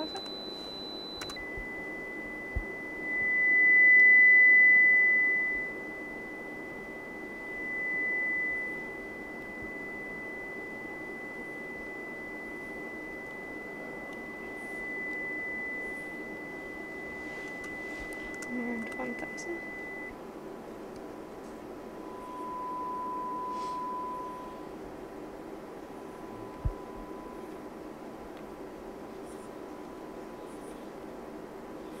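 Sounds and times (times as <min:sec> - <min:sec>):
sine test tone: 0:00.0 - 0:20.2, 0:21.0 - 0:32.0.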